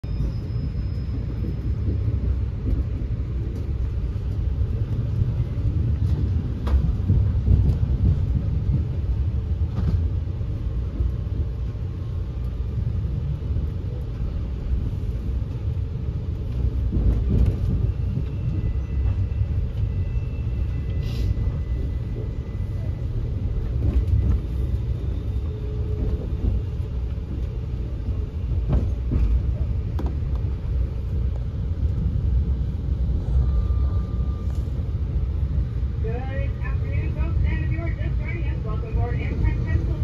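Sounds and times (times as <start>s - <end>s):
train rumbling inside carriage: 0.0s - 40.0s.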